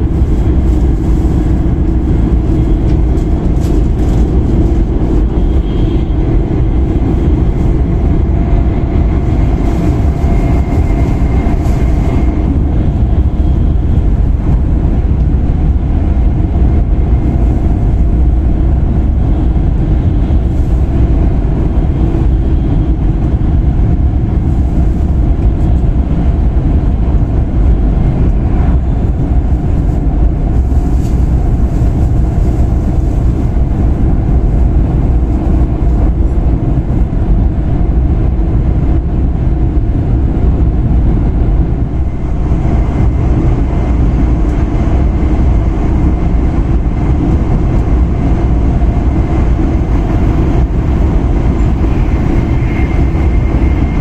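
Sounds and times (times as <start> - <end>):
train interior low rumble: 0.0 - 54.0.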